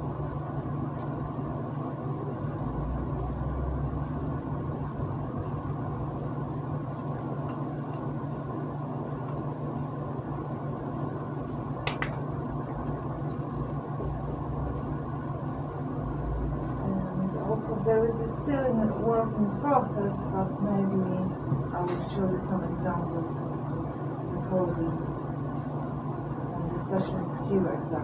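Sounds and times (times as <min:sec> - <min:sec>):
room hum and hiss: 0:00.0 - 0:28.0.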